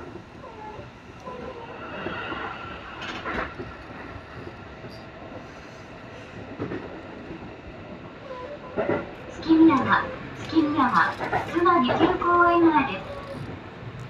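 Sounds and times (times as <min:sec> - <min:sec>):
train wheel-on-rail running noise: 0:00.0 - 0:14.0.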